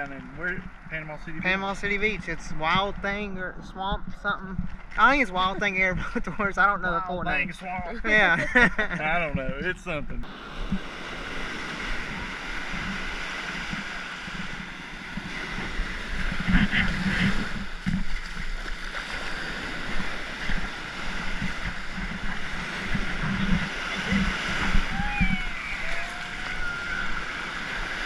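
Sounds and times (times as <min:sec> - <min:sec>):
outdoor noise rush: 0:00.0 - 0:28.0
wind buffeting microphone: 0:00.0 - 0:28.0.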